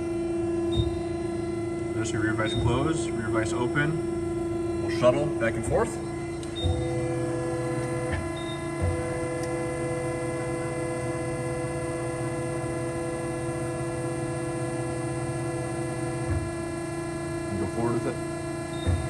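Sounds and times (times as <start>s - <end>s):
hydraulic system humming: 0.0s - 19.0s
hydraulic whine: 0.0s - 19.0s.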